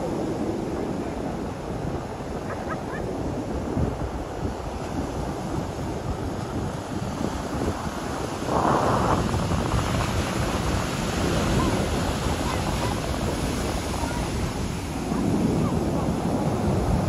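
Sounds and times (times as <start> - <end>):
surf breaking on sandy shore: 0.0 - 17.0
wind buffeting microphone: 0.0 - 17.0.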